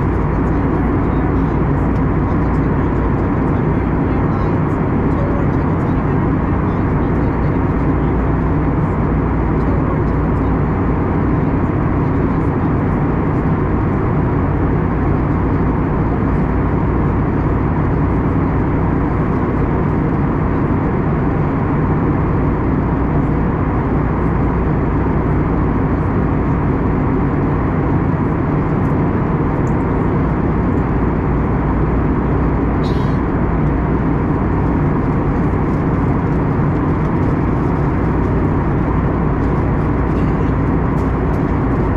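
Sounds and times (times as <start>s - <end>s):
faint low hums: 0.0s - 41.9s
jet engine drone and rushing air: 0.0s - 41.9s.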